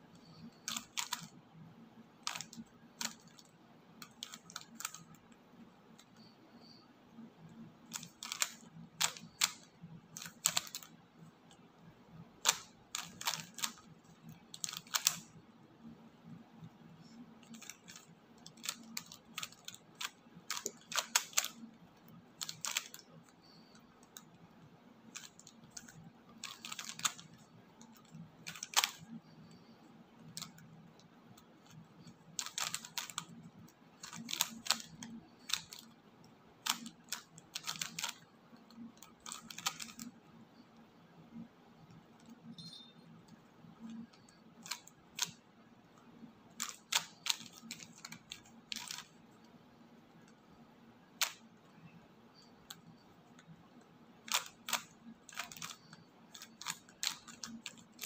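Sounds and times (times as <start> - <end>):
plastic puzzle cube clicking: 0.2 - 1.4, 2.2 - 6.2, 7.5 - 15.4, 16.3 - 24.4, 25.0 - 29.6, 30.2 - 36.0, 36.6 - 40.2, 43.2 - 45.5, 46.5 - 49.6, 51.1 - 51.8, 52.6 - 58.0.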